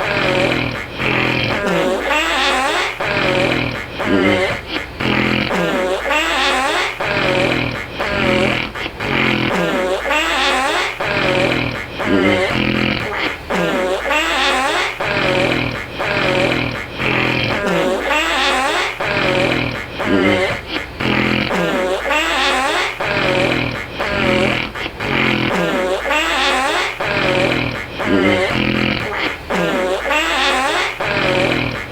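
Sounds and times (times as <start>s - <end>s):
person snoring: 0.0s - 31.9s.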